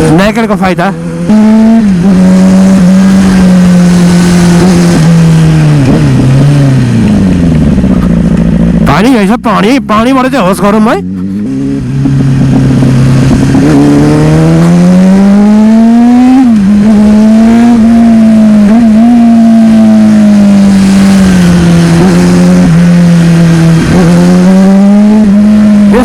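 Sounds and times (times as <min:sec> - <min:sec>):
motorcycle engine revving: 0:00.0 - 0:26.0
wind rushing noise: 0:01.1 - 0:08.7, 0:11.4 - 0:18.7, 0:19.6 - 0:25.8.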